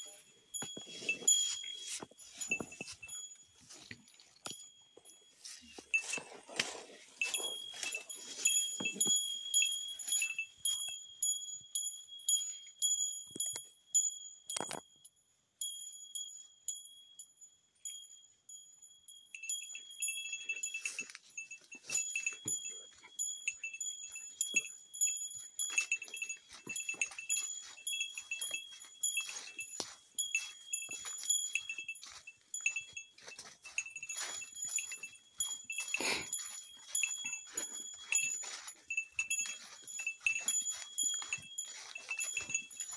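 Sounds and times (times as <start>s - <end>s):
bear bells jingling: 0.0s - 42.9s.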